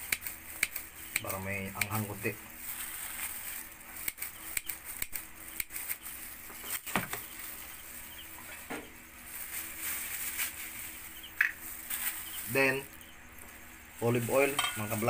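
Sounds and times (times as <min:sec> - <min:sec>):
plastic rustling: 0:00.0 - 0:15.0.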